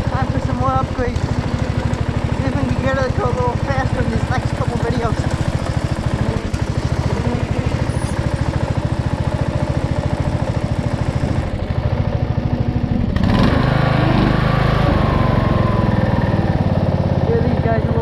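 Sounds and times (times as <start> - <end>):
lawnmower engine running: 0.0 - 18.0.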